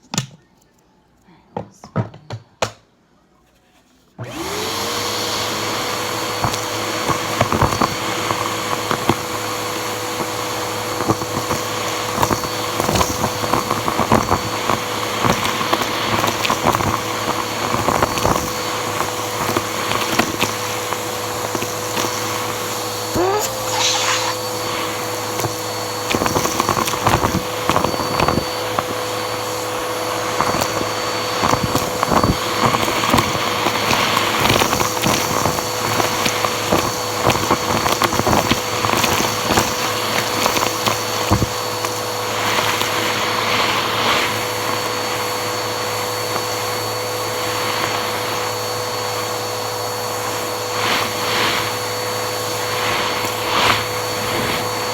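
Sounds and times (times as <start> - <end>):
vacuum cleaner motor whining: 4.2 - 54.9.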